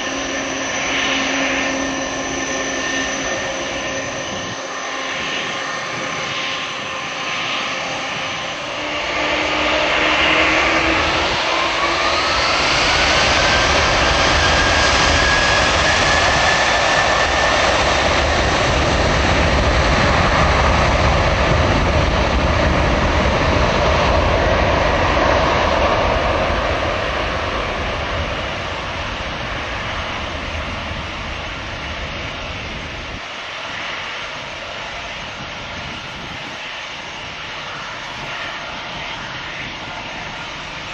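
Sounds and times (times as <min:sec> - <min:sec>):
jet engines spooling up: 0:00.0 - 0:40.9.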